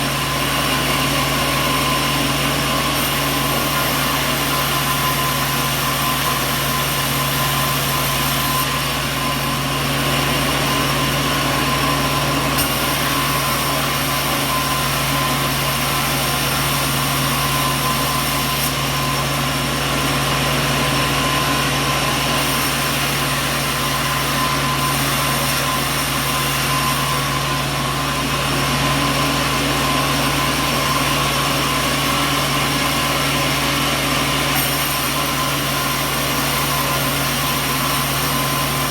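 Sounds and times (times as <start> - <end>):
sawmill machinery droning: 0.0 - 38.9.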